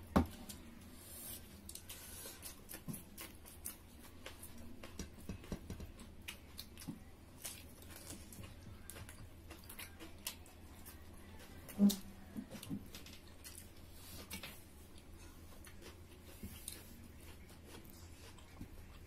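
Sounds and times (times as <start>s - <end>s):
low steady hum: 0.0s - 19.0s
people chewing and lip smacking: 0.3s - 19.0s.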